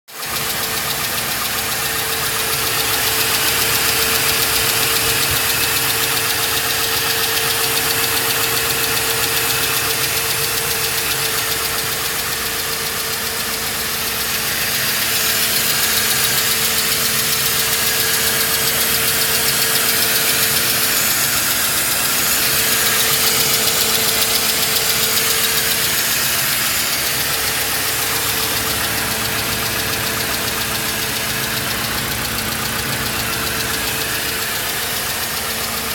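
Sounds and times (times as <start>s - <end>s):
car engine running: 0.1s - 35.9s.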